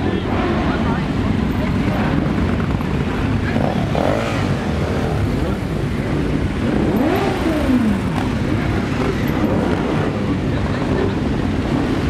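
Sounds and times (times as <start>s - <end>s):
motorcycle revving: 0.0s - 12.0s
motorcycles riding past: 0.0s - 12.0s.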